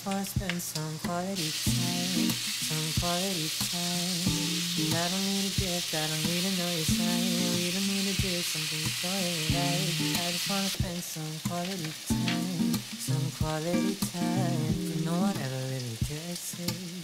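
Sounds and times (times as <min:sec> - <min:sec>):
background music: 0:00.0 - 0:07.8, 0:08.9 - 0:16.2
meat sizzling in a frying pan: 0:00.0 - 0:17.0.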